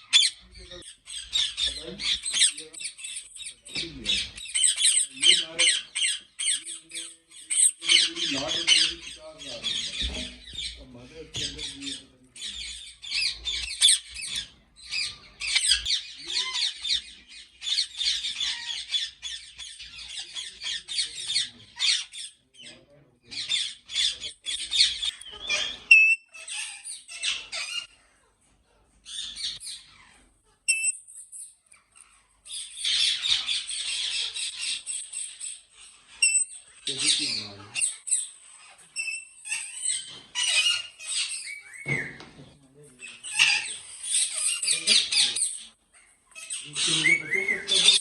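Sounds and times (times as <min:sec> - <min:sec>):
parakeets screeching and squawking: 0:00.0 - 0:48.0.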